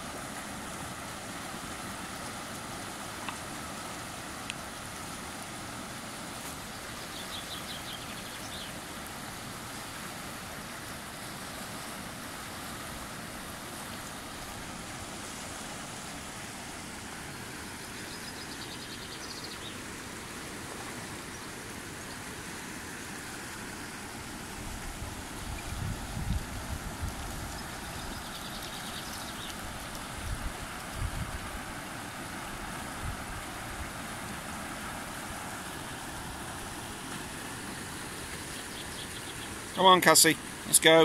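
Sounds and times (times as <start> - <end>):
river water rushing over weir: 0.0 - 41.0.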